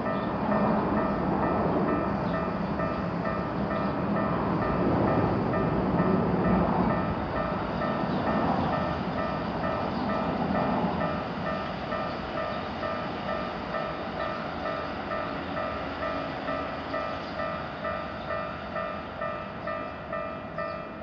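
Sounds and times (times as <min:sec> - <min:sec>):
level crossing warning bell: 0:00.0 - 0:21.0
train rumbling: 0:00.0 - 0:21.0.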